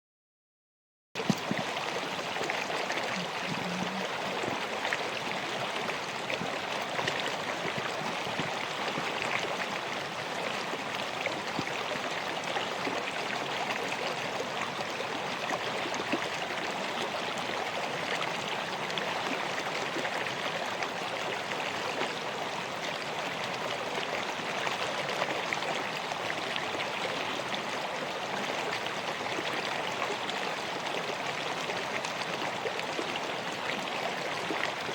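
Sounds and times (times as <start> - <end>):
river water rushing: 1.3 - 34.9.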